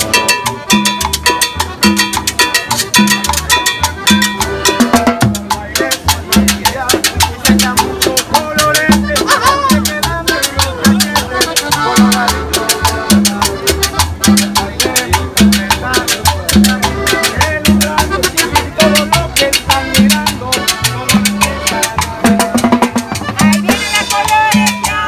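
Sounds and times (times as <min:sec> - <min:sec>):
live salsa band playing: 0:00.0 - 0:25.0.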